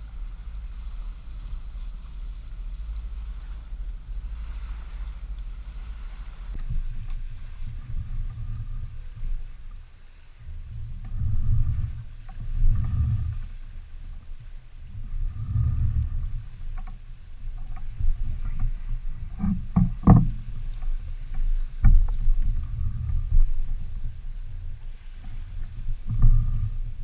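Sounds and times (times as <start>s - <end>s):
wind and water along hull: 0.0s - 27.0s.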